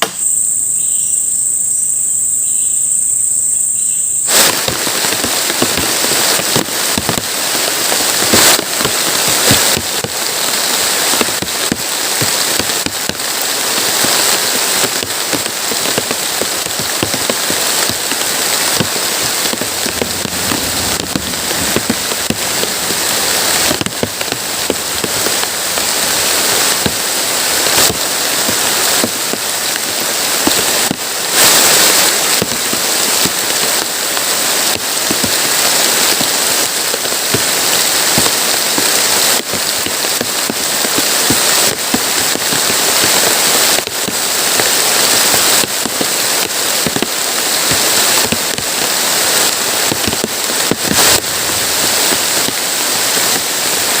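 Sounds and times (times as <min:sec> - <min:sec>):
heavy rain pouring: 0:03.8 - 0:54.0.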